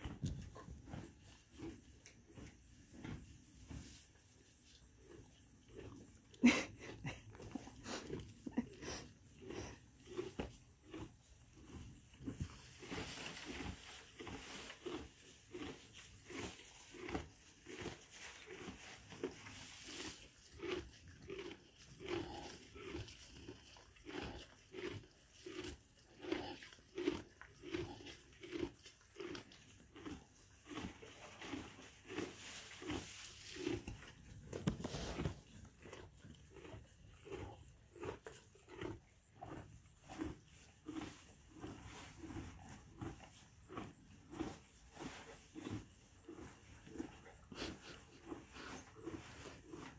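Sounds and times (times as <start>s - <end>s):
donkey chewing hay: 0.0s - 49.9s.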